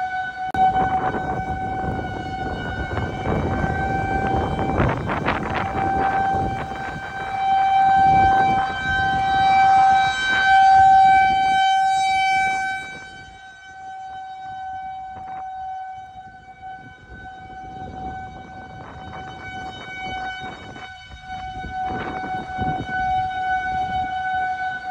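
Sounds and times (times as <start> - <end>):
warning siren steady tone: 0.0 - 24.9
wind noise on microphone: 0.0 - 24.9.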